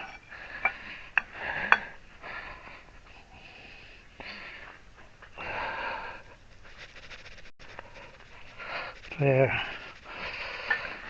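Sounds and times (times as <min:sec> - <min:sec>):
man breathing heavily: 0:00.2 - 0:06.5, 0:07.6 - 0:11.0.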